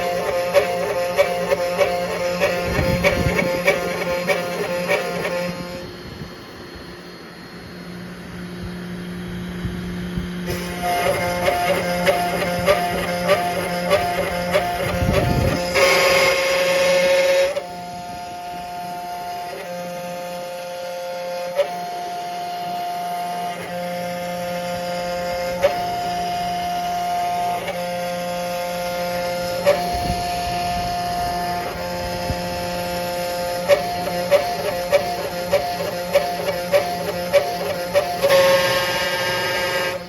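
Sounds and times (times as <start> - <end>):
stepper motors whining: 0.0 - 40.0.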